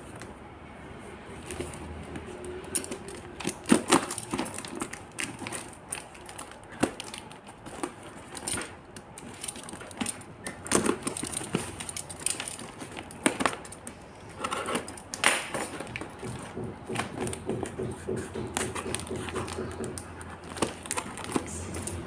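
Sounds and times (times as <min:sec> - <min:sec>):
tape and plastic crinkling: 0:01.3 - 0:22.0
taps on cardboard parcel: 0:01.5 - 0:14.0, 0:14.6 - 0:22.0.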